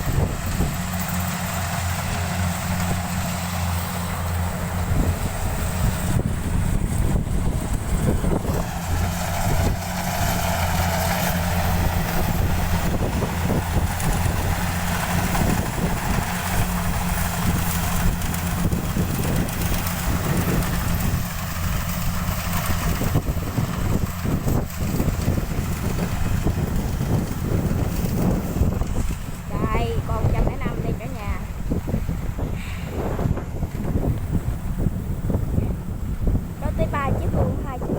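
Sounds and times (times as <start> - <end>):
combine harvesters running: 0.0 - 37.9
low diesel engine hum: 0.0 - 37.9.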